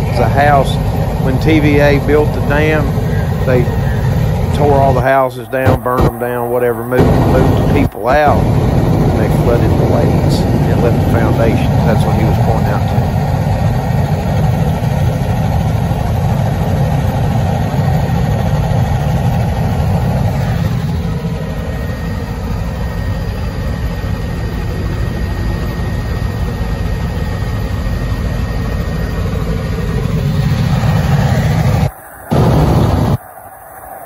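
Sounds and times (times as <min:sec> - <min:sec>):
faint high whine: 0:00.0 - 0:34.0
helicopter engine and rotor drone: 0:00.0 - 0:34.0.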